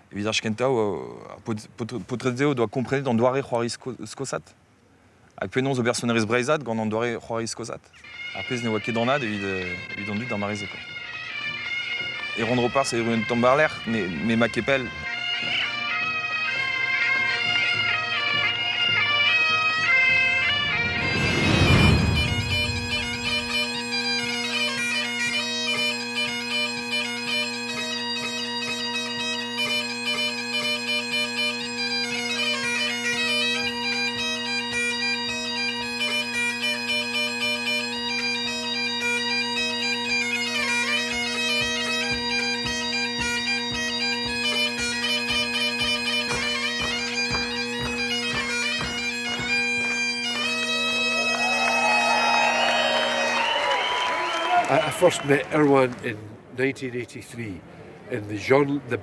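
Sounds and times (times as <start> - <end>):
bagpipe playing a tune: 8.0 - 55.6.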